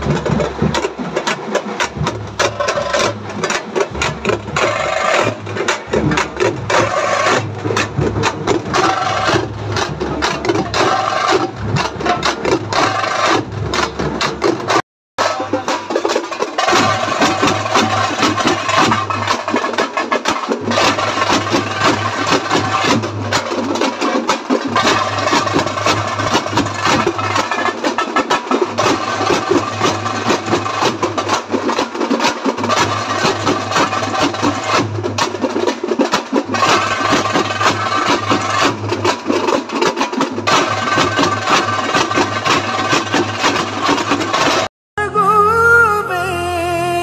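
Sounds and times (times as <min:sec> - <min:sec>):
frame drums rapid drumming: 0:00.0 - 0:44.7.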